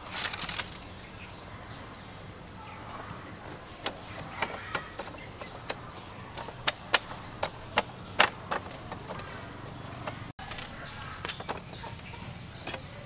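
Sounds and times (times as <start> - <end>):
bamboo slats clacking: 0.0 - 0.9, 2.5 - 13.0.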